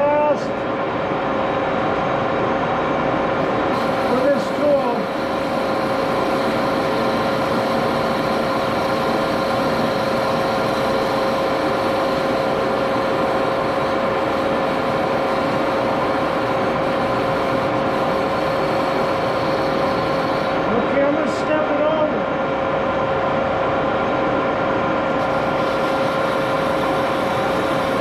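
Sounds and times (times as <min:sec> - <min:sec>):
lathe gear whine: 0:00.0 - 0:28.0.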